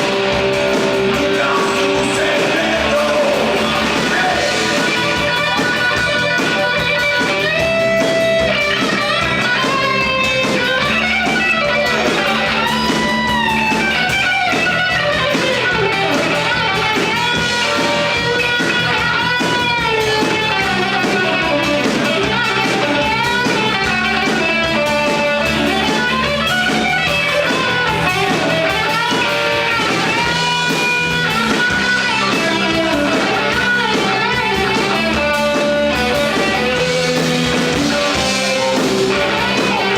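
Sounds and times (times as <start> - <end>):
electric guitar with bending notes: 0.0 - 39.9
rock band backing: 0.0 - 39.9.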